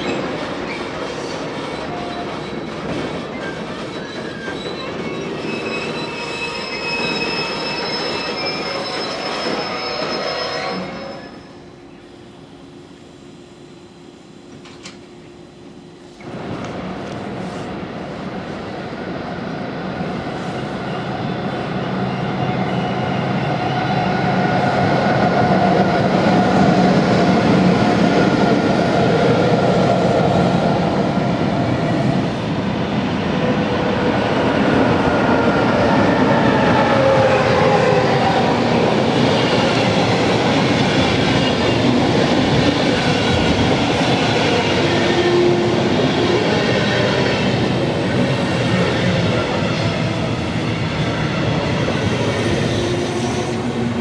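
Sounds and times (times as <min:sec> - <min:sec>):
train wheels on rails: 0:00.0 - 0:12.1, 0:14.4 - 0:15.3, 0:16.0 - 0:54.0
electric locomotive whine: 0:00.0 - 0:54.0.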